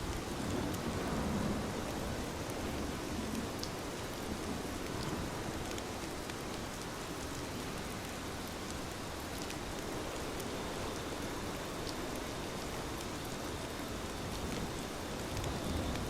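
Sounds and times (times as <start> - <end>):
raindrops ticking on a surface: 0.0 - 16.0
steady rain hiss: 0.0 - 16.0.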